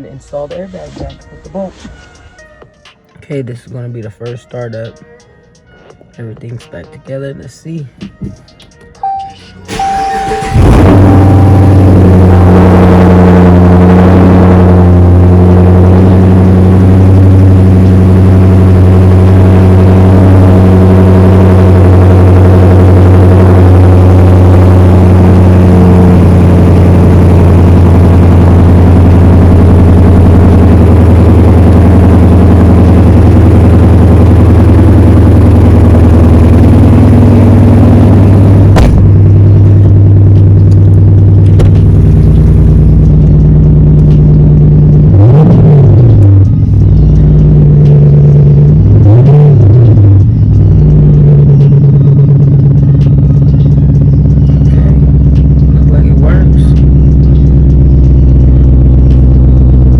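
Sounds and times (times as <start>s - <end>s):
car engine idling: 7.5s - 59.9s.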